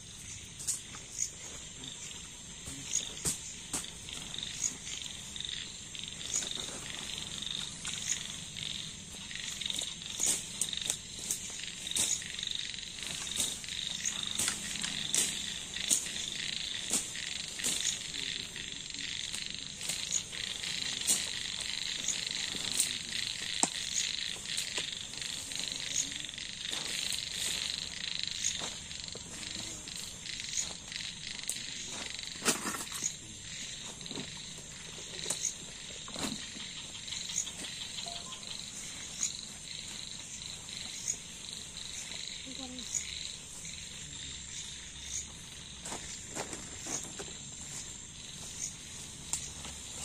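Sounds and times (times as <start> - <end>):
frogs and insects trilling: 0.0 - 50.0
sharp clicking calls: 0.2 - 50.0.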